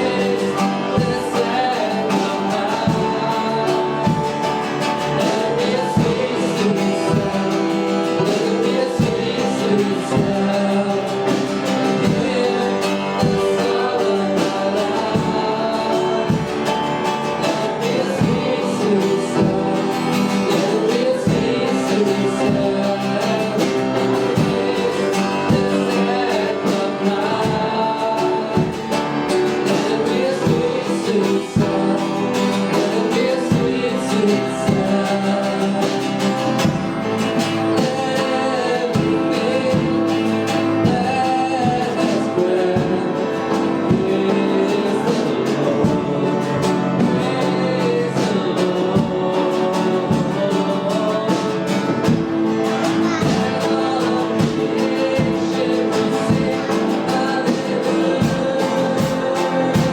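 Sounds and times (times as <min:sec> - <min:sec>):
worship song with guitar: 0:00.0 - 0:59.9.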